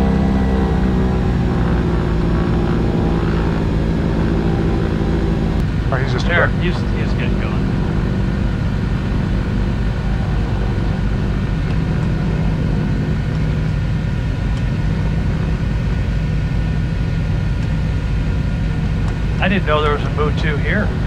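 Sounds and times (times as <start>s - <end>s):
aircraft piston engines droning: 0.0s - 21.0s.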